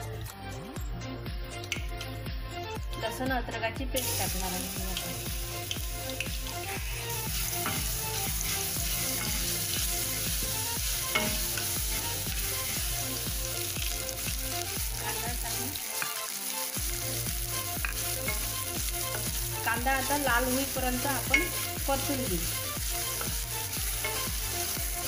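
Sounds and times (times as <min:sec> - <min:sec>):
sizzling in hot oil: 0:00.0 - 0:25.0.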